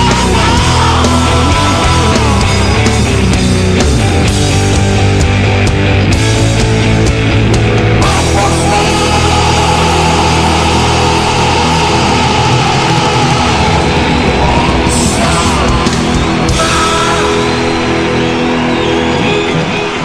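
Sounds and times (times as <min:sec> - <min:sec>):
heavy metal rock music: 0:00.0 - 0:20.0.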